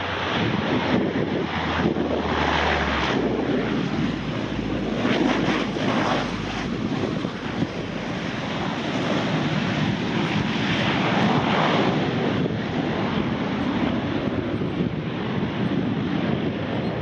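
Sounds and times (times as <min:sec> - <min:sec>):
turboprop engines droning: 0:00.0 - 0:17.0
wind noise on microphone: 0:00.0 - 0:17.0.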